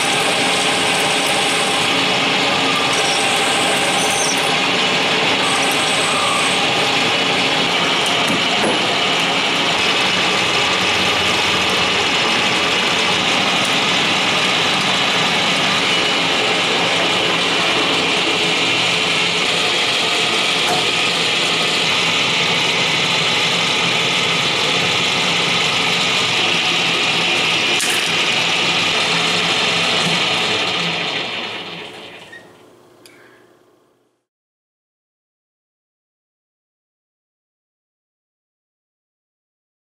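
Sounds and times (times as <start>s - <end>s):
lathe motor whirring: 0.0s - 32.6s.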